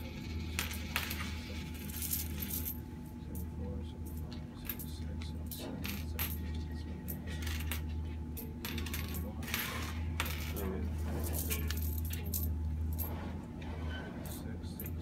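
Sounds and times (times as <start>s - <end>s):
coins clinking on a counter: 0.0s - 13.1s
low steady hum: 0.0s - 15.0s.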